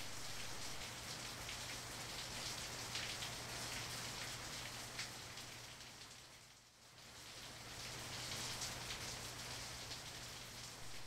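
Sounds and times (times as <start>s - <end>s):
rain pattering on hard surfaces: 0.0s - 11.0s.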